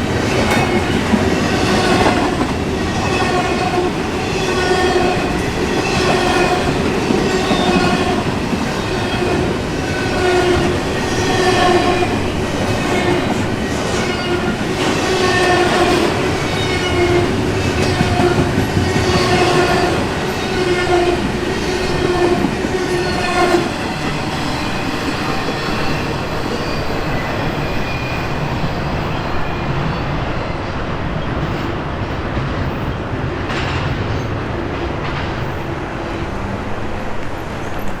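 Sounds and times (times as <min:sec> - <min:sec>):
train wheel clatter and rumble: 0:00.0 - 0:38.0.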